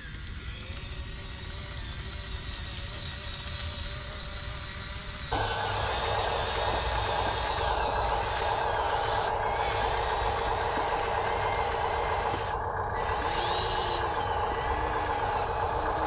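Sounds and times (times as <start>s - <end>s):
model excavator mechanical hum: 0.0s - 16.0s.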